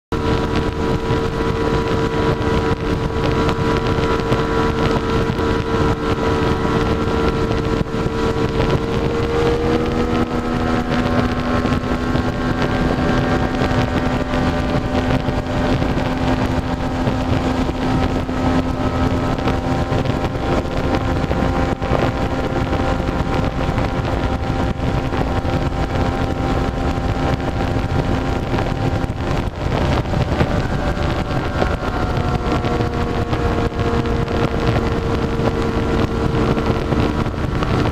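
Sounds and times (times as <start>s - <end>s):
outboard motor running: 0.0s - 37.9s
rush of wind and water: 0.1s - 37.9s.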